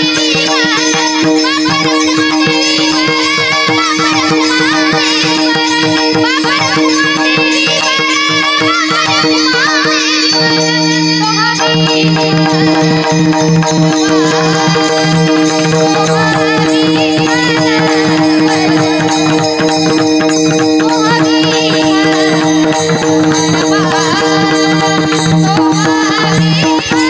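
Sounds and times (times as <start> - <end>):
harmonium drone: 0.0 - 27.0
woman singing devotional melody: 0.0 - 27.0.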